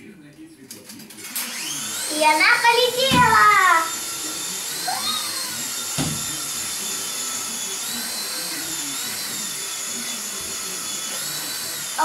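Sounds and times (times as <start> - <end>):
small propeller motor whining: 1.4 - 12.0.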